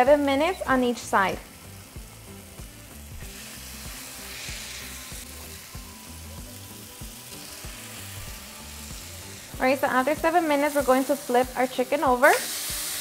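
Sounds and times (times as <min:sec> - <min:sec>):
chicken sizzling in a grill pan: 0:00.0 - 0:13.0.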